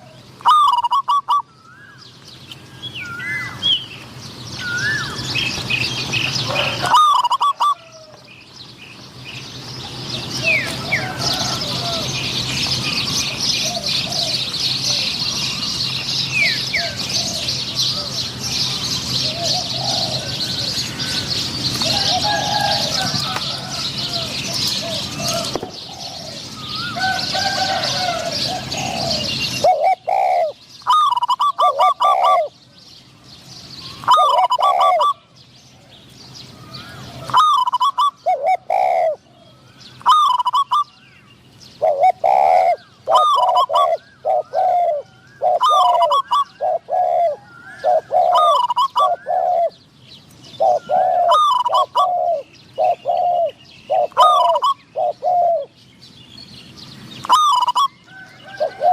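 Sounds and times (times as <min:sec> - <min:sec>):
doves cooing: 0:00.0 - 0:02.0, 0:02.7 - 0:32.7, 0:33.7 - 0:41.0, 0:41.7 - 0:55.8, 0:57.0 - 0:58.9.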